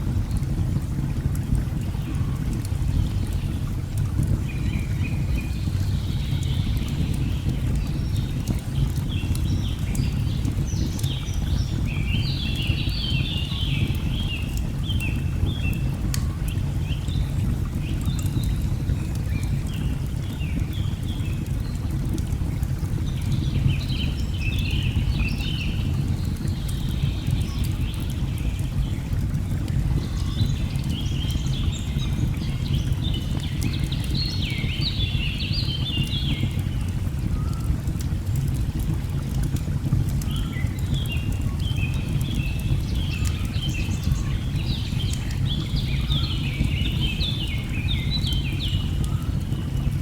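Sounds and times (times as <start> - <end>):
faint fire crackles: 0.0 - 50.0.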